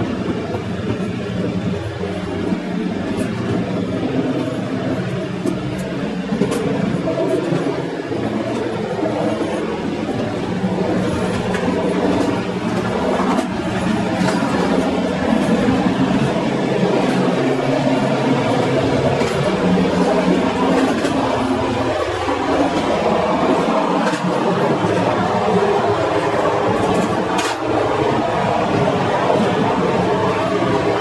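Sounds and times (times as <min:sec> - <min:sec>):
train rumbling along track: 0:00.0 - 0:31.0
wheels clicking on rails: 0:00.0 - 0:31.0.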